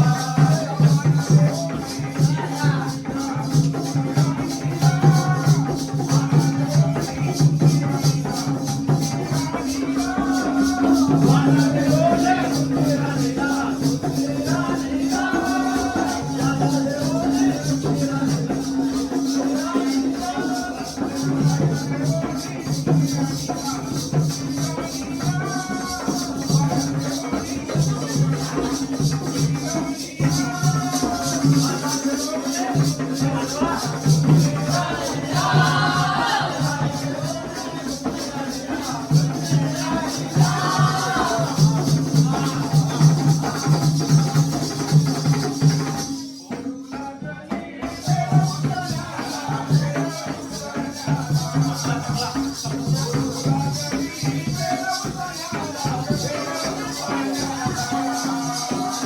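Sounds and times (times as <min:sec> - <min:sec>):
small cymbals fast beat: 0:00.0 - 0:59.0.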